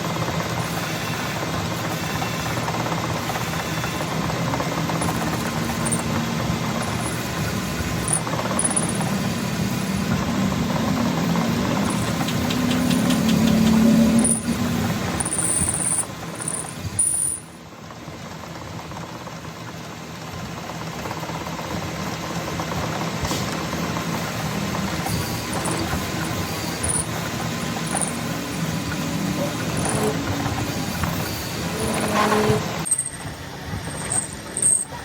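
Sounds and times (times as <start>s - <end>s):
car engine running: 1.4s - 35.0s.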